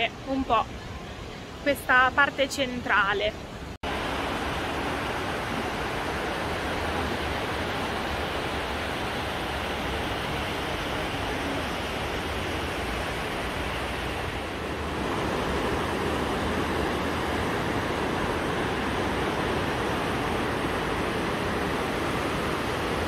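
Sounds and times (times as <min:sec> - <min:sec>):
river rushing over rocks: 0:03.4 - 0:23.0.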